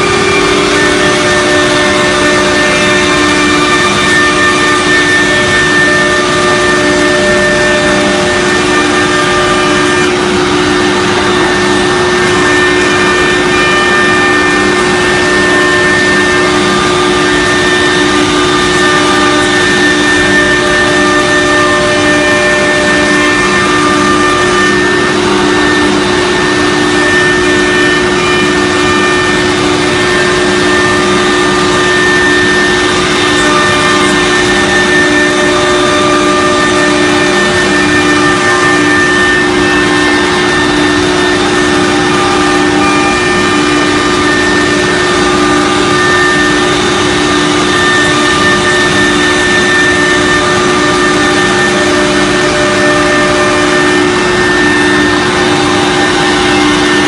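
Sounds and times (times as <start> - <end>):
cnc router spindle whine: 0.0 - 57.0.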